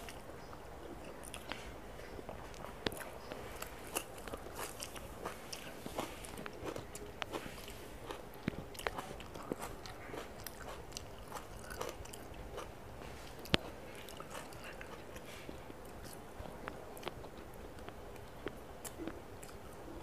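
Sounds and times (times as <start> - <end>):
wet chewing and mouth sounds: 0.0 - 20.0.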